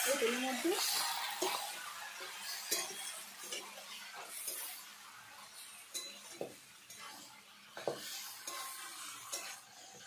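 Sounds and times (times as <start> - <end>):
metal spatula scraping a pan: 0.0 - 10.0.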